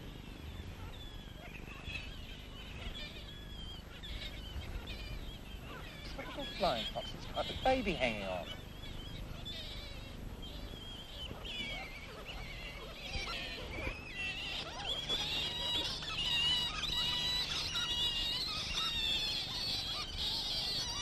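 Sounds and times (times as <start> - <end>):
fruit bats squeaking and chattering: 0.2 - 21.0.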